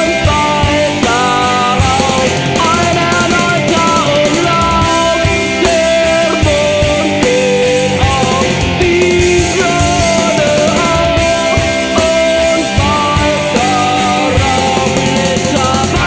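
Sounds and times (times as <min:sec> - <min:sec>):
melodic lead guitar line: 0:00.0 - 0:16.0
punk rock band playing: 0:00.0 - 0:16.0.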